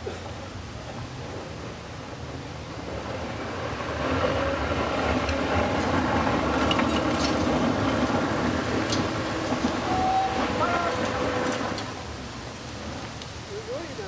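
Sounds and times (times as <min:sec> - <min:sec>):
car engine driving on gravel: 0:00.8 - 0:13.8.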